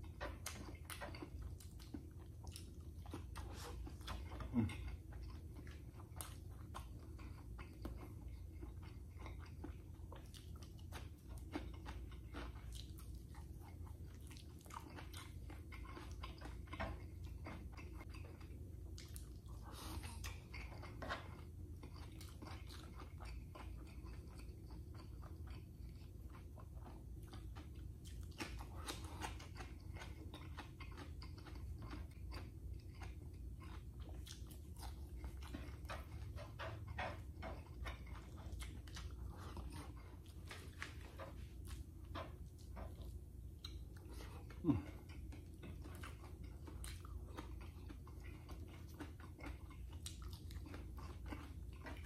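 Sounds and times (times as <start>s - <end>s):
person chewing with crunches: 0.0s - 52.0s.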